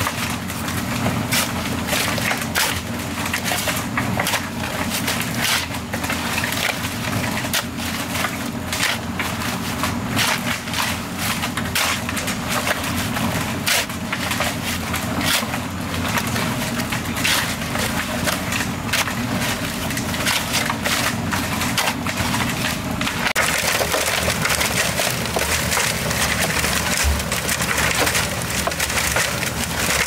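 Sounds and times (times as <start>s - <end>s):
wood cracking and splintering: 0.0s - 30.0s.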